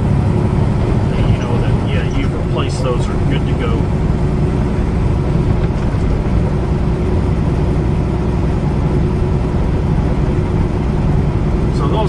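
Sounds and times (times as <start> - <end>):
diesel truck engine rumble: 0.0 - 12.0
road noise: 0.0 - 12.0.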